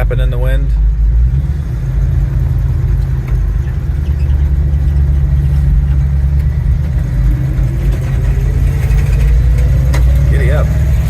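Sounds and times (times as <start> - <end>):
pickup truck engine rumble: 0.0 - 11.0.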